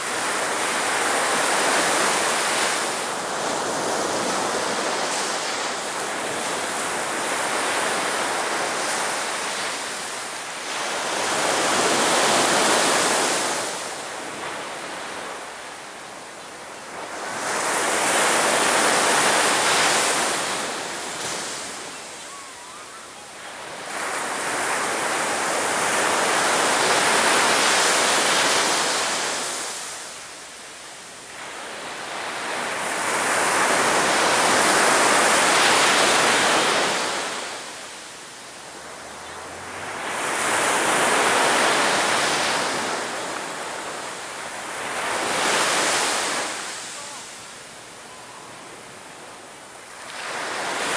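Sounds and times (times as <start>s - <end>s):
sea waves breaking on beach: 0.0s - 50.9s.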